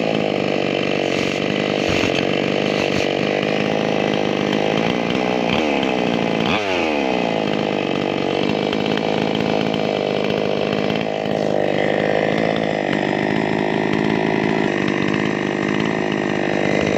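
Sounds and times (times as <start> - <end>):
chainsaw engine revving: 0.0 - 16.9.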